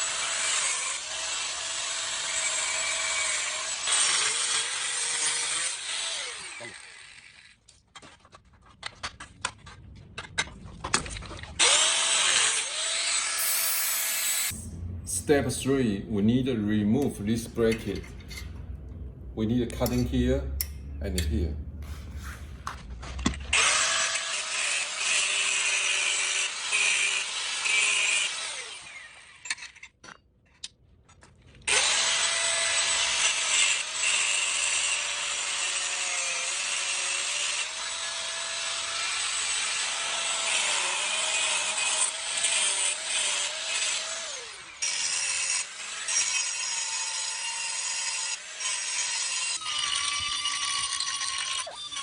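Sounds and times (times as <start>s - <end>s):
power cutting tool grinding metal: 0.0s - 7.6s, 11.6s - 15.2s, 17.0s - 18.6s, 19.7s - 29.9s, 31.7s - 52.0s.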